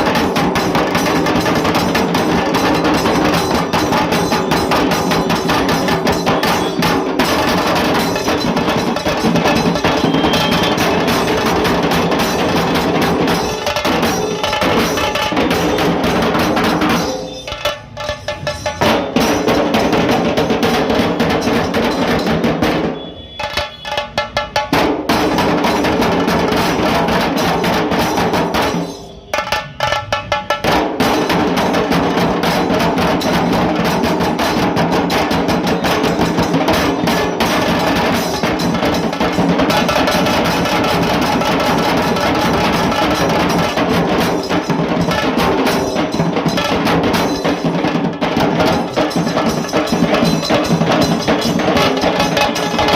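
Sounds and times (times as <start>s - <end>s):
drum ensemble playing: 0.0s - 52.9s.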